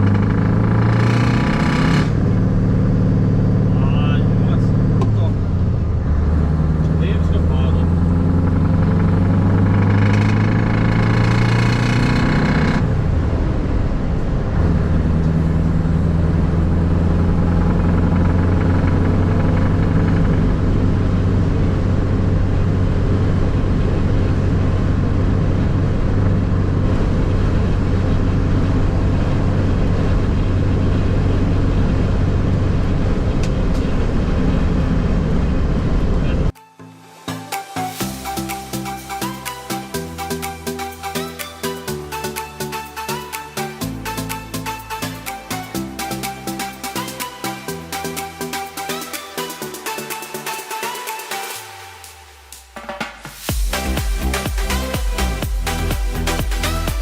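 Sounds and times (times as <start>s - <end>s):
truck engine drone: 0.0s - 57.0s.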